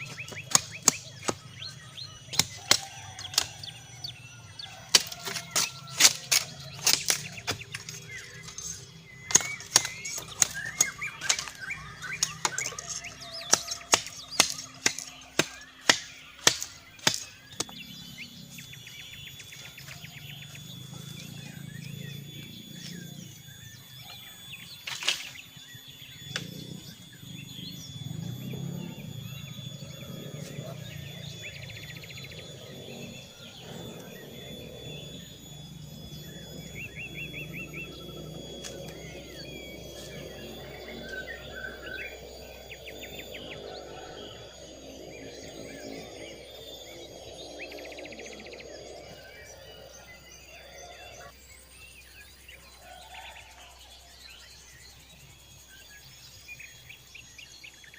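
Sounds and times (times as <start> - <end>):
bird chirps: 0.0 - 57.9
steady high tone: 0.0 - 57.9.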